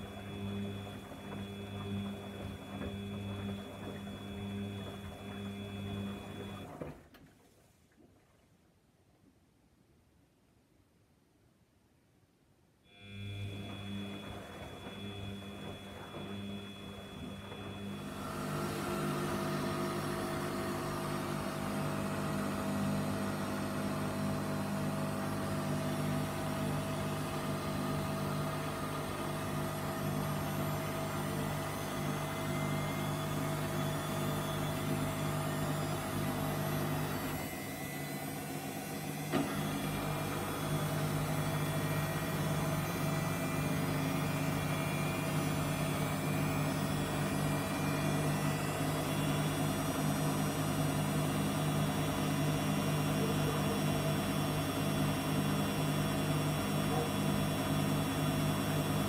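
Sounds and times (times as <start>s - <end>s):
washing machine spinning: 0.0s - 7.1s, 13.0s - 59.0s.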